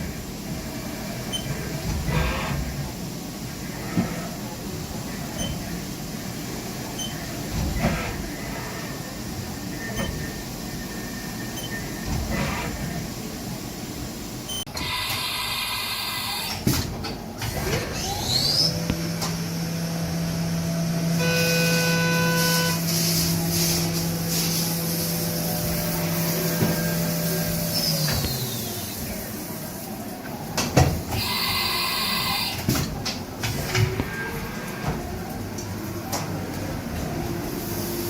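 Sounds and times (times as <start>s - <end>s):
mechanical machine noise: 0.0s - 13.1s, 14.5s - 38.0s.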